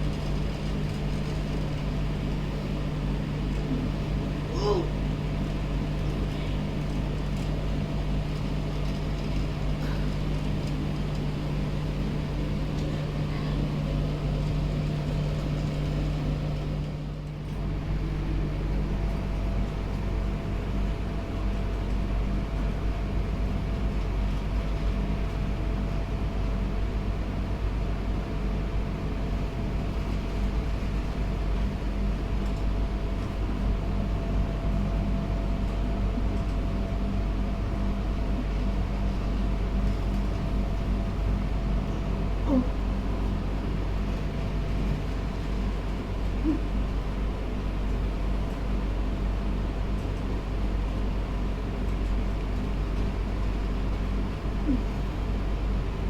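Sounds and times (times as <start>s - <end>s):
steady mechanical hum with tones: 0.0s - 56.0s.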